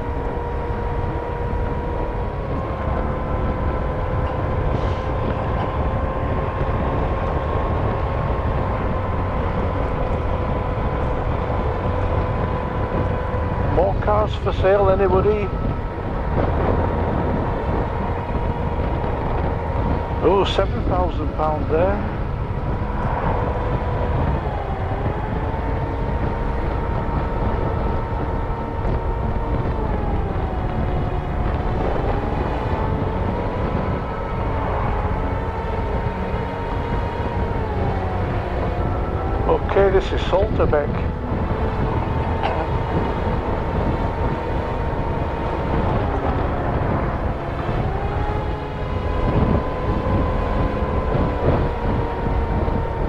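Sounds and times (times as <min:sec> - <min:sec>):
motorbike engine whine: 0:00.0 - 0:53.0
road rumble: 0:00.0 - 0:53.0
wind: 0:00.0 - 0:53.0.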